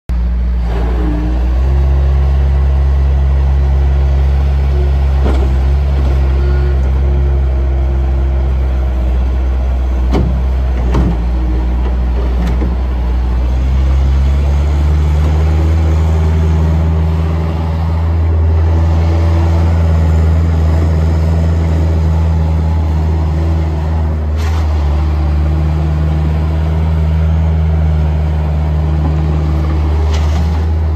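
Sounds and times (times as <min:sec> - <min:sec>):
diesel engine running: 0:00.1 - 0:30.9.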